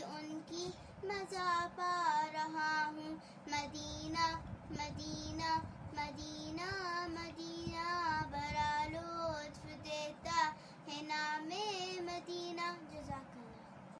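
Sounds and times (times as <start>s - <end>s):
girl singing unaccompanied: 0.0s - 13.9s.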